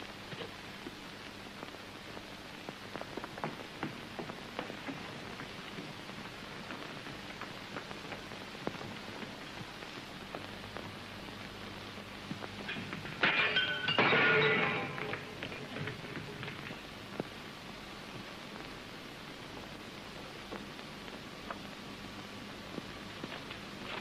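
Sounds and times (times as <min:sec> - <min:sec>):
crackles and pops: 0:00.0 - 0:24.0
faint low hum: 0:00.0 - 0:24.0
film soundtrack hiss: 0:00.0 - 0:24.0.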